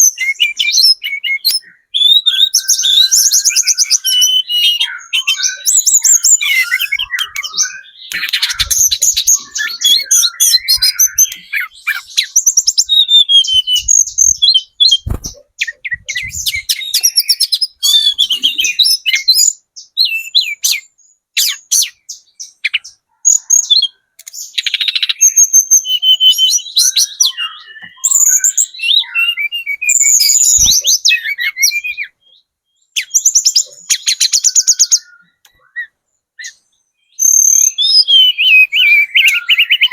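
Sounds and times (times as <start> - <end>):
bird chattering and twittering: 0.0 - 39.9.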